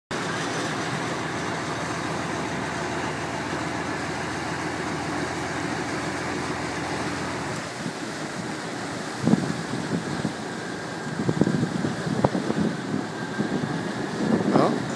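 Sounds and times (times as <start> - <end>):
boat engine running: 0.1 - 14.9.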